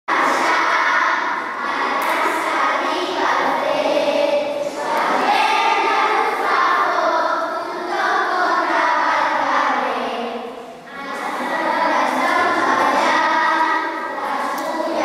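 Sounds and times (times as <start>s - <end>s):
children singing in chorus: 0.1s - 15.0s.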